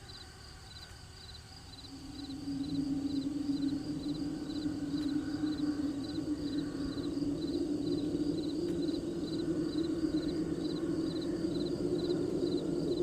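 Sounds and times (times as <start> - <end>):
crickets chirping: 0.0 - 13.0
steady low hum: 0.0 - 13.0.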